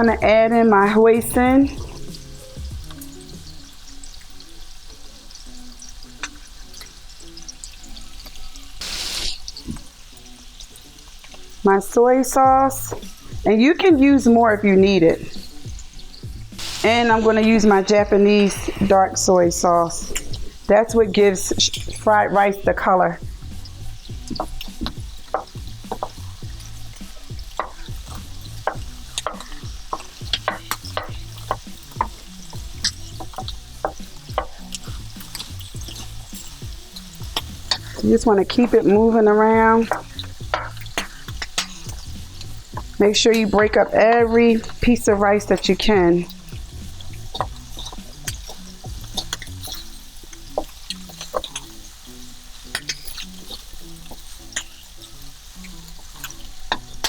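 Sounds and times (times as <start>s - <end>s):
food frying in a wok: 0.0s - 57.0s
soft background music: 0.0s - 57.0s.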